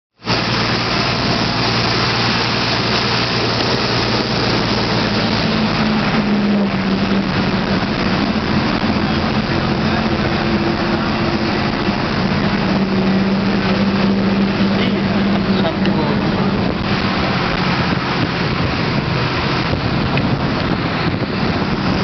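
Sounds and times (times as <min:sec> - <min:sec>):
road and rattle noise: 0:00.1 - 0:22.0
bus engine running: 0:00.2 - 0:22.0.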